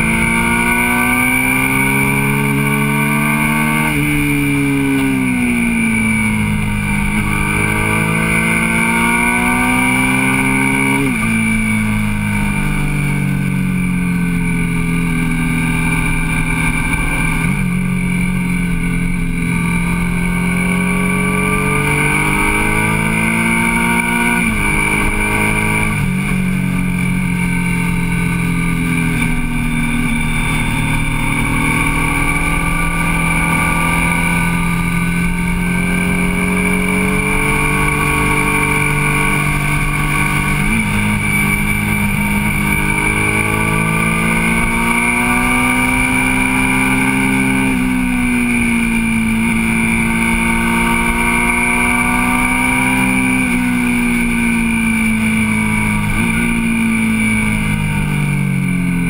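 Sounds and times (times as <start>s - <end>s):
motorcycle engine revving: 0.0s - 59.0s
wind and road rush: 0.0s - 59.0s.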